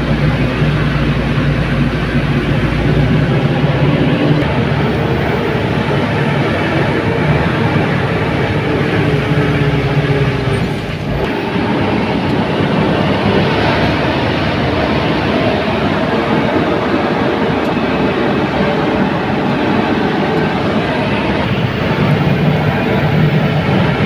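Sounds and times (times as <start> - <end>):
road and wind noise: 0.0 - 24.0
truck engine under load: 0.0 - 24.0.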